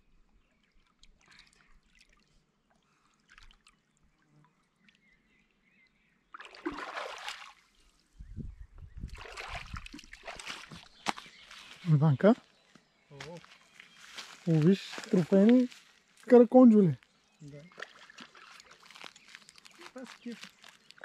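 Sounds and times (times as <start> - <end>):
water splashing and trickling: 0.5 - 5.6, 6.2 - 8.2, 9.0 - 12.3, 13.1 - 21.0.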